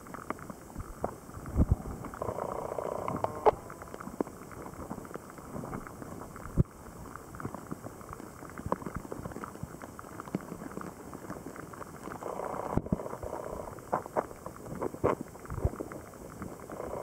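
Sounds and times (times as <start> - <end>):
water clicks and bubbly pops: 0.0 - 17.0.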